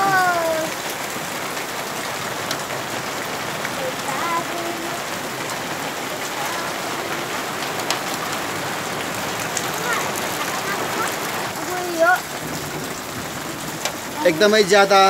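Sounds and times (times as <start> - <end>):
faint hail ticks: 0.0 - 15.0
rain pattering on ground: 0.0 - 15.0.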